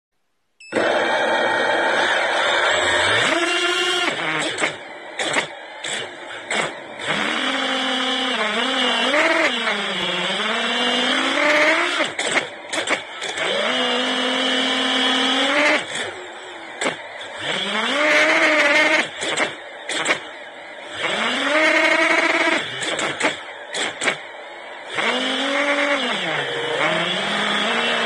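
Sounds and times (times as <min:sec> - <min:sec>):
drone motors whining: 0:00.7 - 0:28.0.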